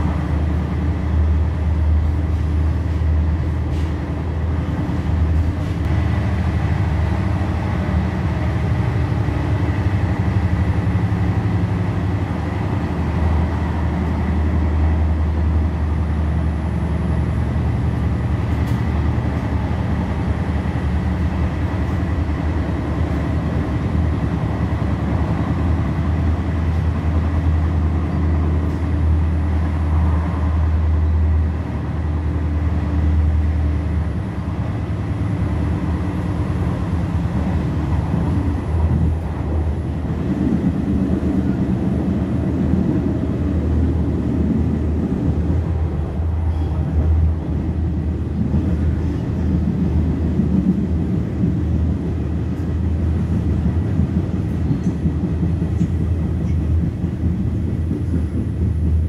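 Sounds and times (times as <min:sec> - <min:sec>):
train rumble from inside: 0:00.0 - 0:59.0.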